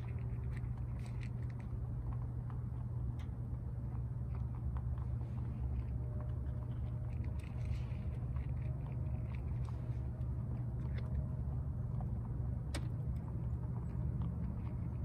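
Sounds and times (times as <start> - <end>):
low steady hum: 0.0 - 15.0
rabbits chewing: 0.0 - 15.0.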